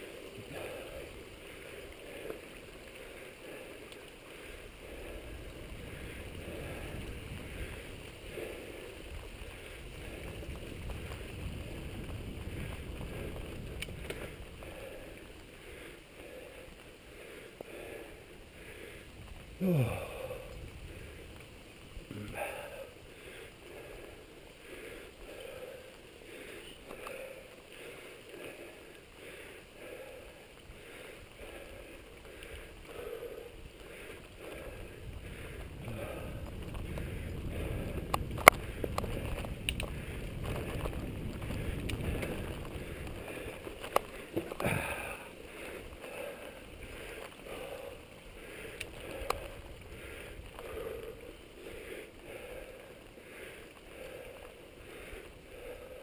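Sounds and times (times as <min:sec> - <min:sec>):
bike clicks and rattles: 0:00.0 - 0:56.0
low rush: 0:00.0 - 0:56.0
mountain bike rolling on dirt: 0:00.0 - 0:56.0.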